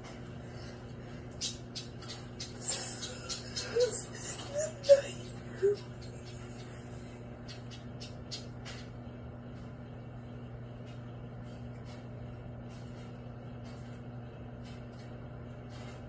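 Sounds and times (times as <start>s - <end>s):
microwave oven hum: 0.0s - 16.0s.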